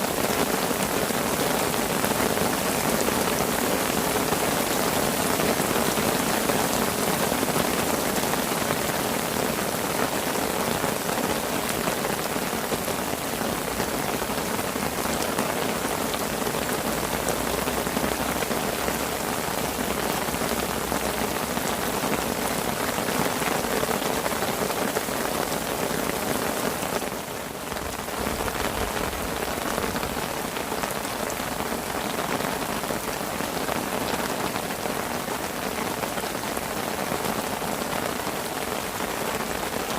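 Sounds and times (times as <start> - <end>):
rain pattering on a parasol: 0.0 - 39.9.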